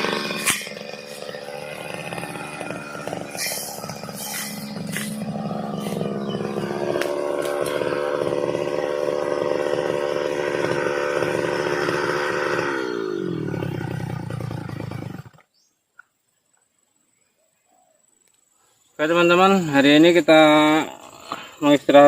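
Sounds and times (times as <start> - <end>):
brush cutter engine: 0.0 - 15.7, 19.1 - 22.0.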